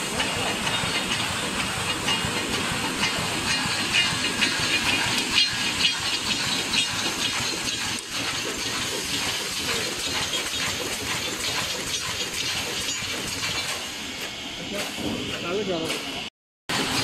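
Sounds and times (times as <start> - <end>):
sharp machine clacks: 0.0 - 14.0, 14.7 - 17.0.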